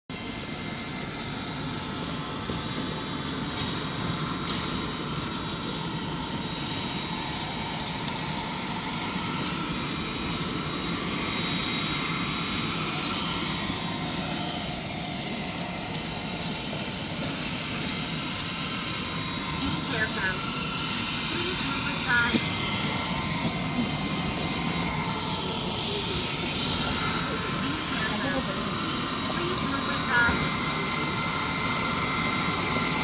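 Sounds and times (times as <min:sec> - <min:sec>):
floor scrubber motor drone: 0:00.1 - 0:33.0.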